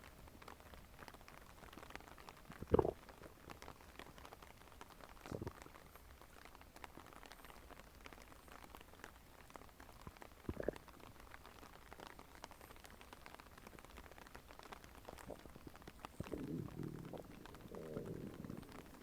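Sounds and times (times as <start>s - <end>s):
faint stomach gurgling: 0.0s - 19.0s.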